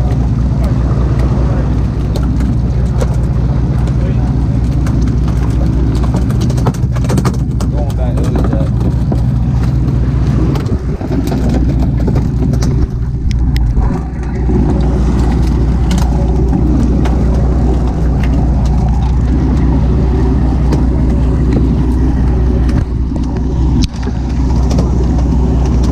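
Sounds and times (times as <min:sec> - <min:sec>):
boat engine droning: 0:00.0 - 0:25.9.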